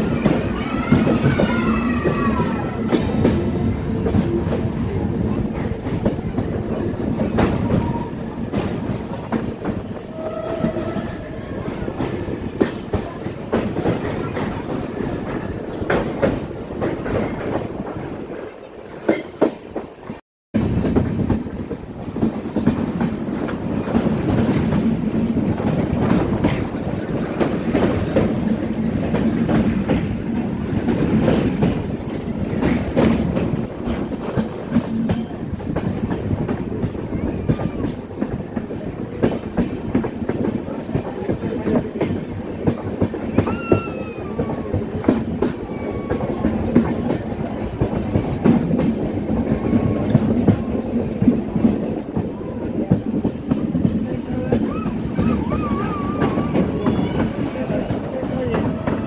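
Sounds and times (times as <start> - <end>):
train rumbling on rails: 0.0 - 59.0
wheels clacking over rail joints: 0.0 - 59.0.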